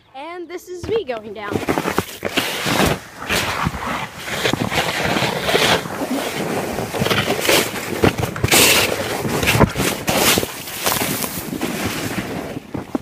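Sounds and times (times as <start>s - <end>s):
sled bumps and knocks: 0.8s - 13.0s
sled scraping over snow: 0.9s - 13.0s.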